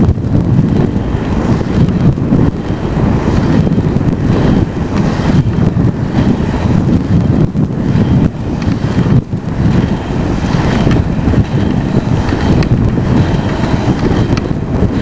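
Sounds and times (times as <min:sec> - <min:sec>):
skate wheels rolling on asphalt: 0:00.0 - 0:15.0
wind buffeting microphone: 0:00.0 - 0:15.0.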